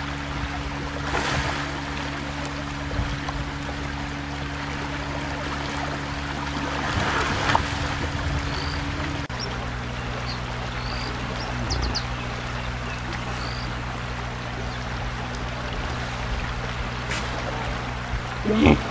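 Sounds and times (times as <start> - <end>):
steady low hum: 0.0 - 18.9
water splashing and churning: 0.0 - 18.9.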